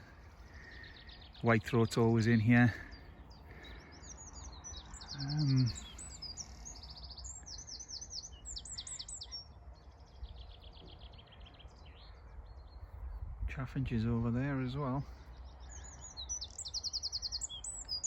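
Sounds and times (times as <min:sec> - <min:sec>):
wren singing high trills: 0:00.0 - 0:13.2, 0:14.2 - 0:18.0.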